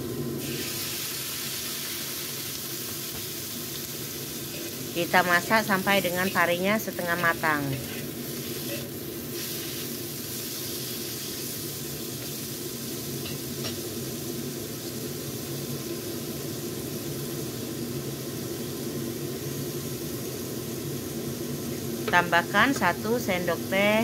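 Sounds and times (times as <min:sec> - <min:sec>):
vegetables sizzling in a wok: 0:00.0 - 0:24.0.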